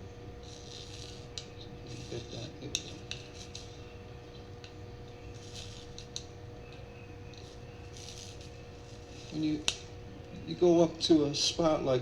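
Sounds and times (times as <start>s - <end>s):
solder sizzling: 0.0s - 12.0s
steady low hum: 0.0s - 12.0s
flux spitting ticks: 0.4s - 10.6s.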